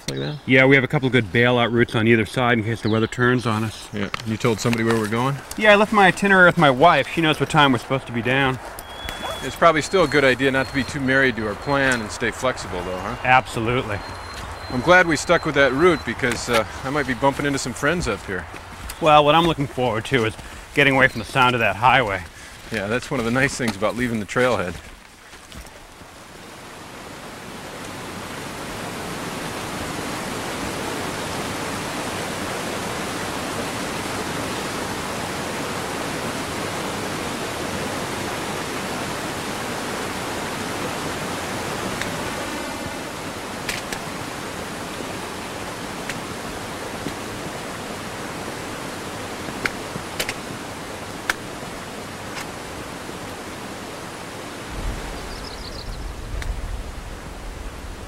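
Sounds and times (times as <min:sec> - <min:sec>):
water rushing over rocks: 0:03.4 - 0:58.0.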